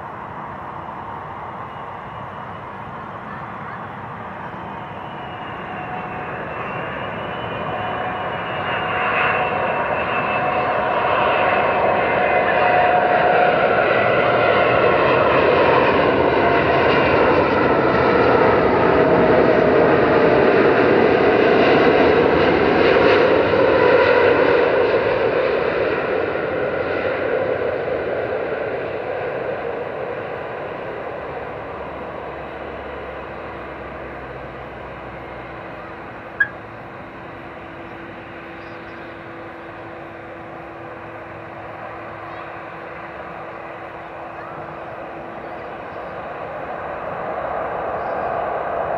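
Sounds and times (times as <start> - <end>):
jet airliner passing overhead: 0.0 - 48.9.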